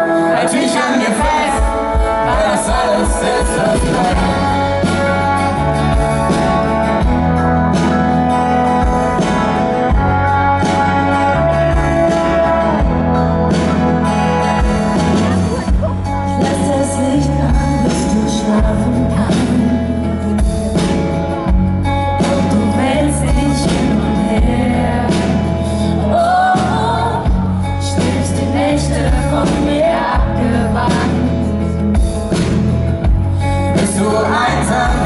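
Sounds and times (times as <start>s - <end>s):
person singing: 0.0s - 6.6s, 10.6s - 21.5s, 22.2s - 31.8s, 33.4s - 35.0s
live pop band playing: 0.0s - 35.0s.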